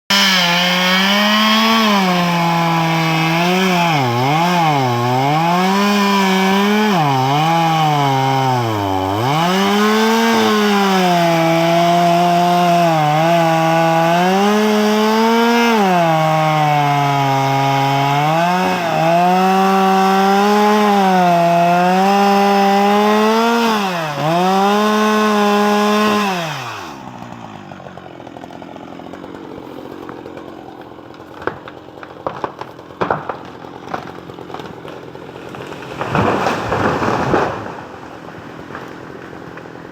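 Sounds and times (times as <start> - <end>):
chainsaw cutting wood: 0.1 - 39.9.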